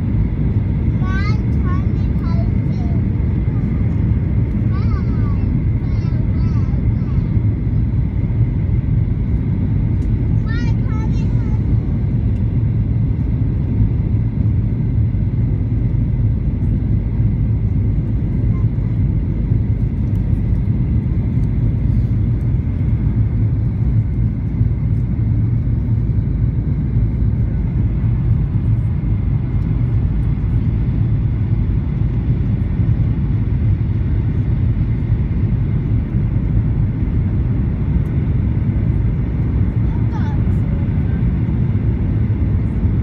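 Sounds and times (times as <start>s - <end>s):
engine and airflow rumble: 0.0s - 43.0s.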